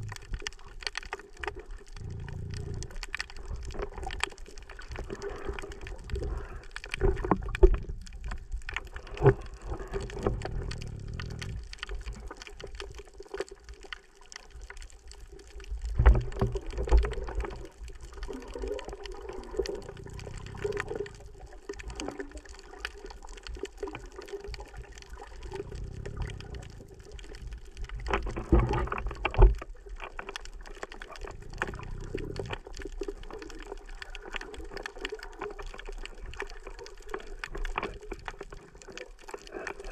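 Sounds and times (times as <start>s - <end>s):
underwater churning and bubbling: 0.0s - 39.9s.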